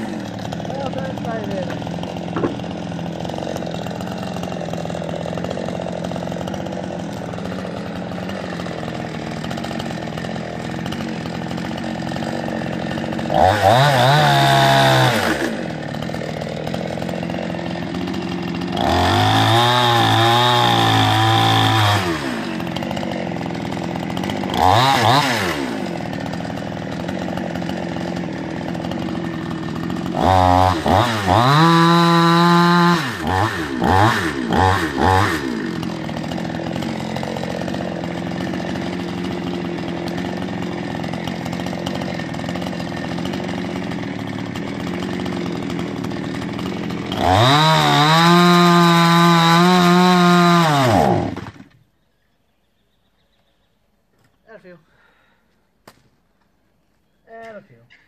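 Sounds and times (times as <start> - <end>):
chainsaw idling and revving: 0.0 - 52.0.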